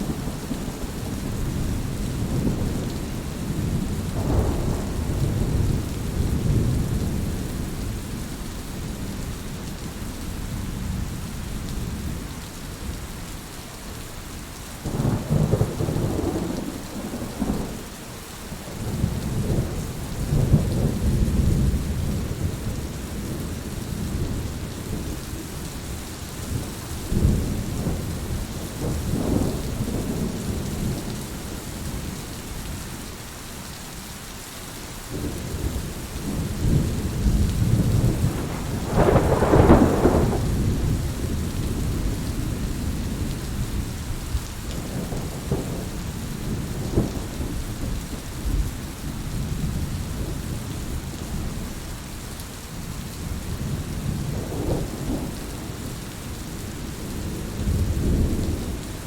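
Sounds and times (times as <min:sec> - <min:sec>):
thunder rumbling: 0:00.0 - 0:09.2, 0:14.8 - 0:32.2, 0:35.1 - 0:51.7, 0:53.0 - 0:59.0
heavy rain falling: 0:00.0 - 0:59.0.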